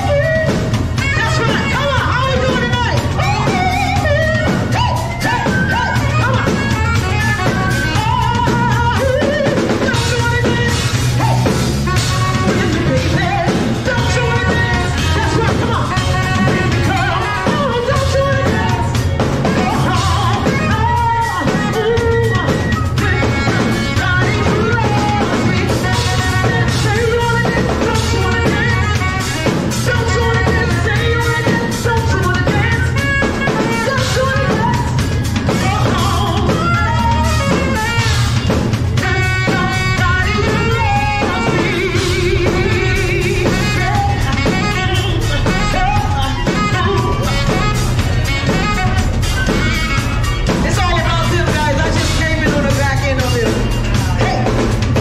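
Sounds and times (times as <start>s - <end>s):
drum kit: 0.0s - 55.0s
woman singing into a microphone: 0.0s - 55.0s.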